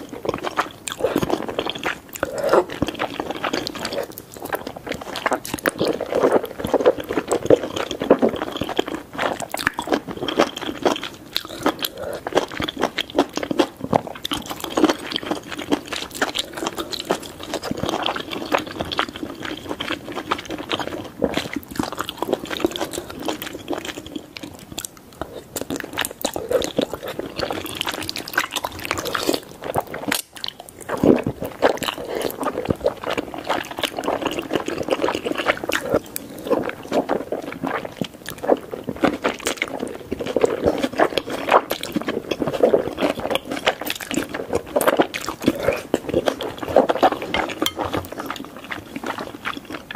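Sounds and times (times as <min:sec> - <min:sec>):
wet chewing and slurping noodles: 0:00.0 - 0:49.9.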